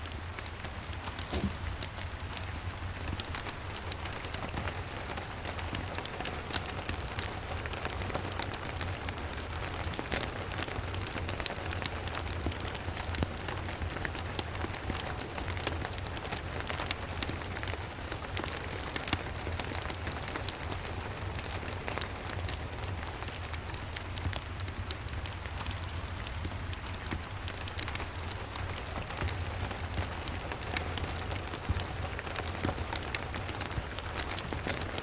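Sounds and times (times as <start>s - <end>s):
steady rain falling: 0.0s - 35.0s
wood fire crackling: 0.0s - 35.0s.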